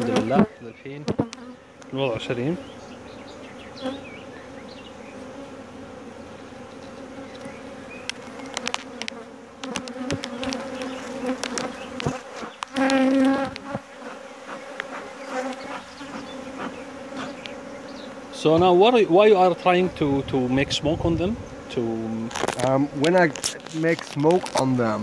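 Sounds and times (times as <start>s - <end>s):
bee buzzing close by: 0.0s - 25.0s
bees humming around hive: 0.0s - 25.0s.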